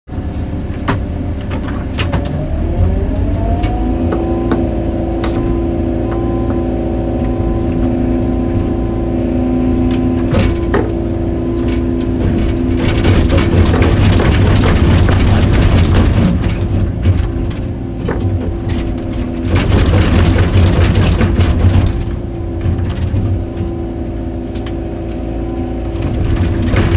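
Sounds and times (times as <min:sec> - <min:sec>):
excavator diesel engine: 0:00.1 - 0:26.9.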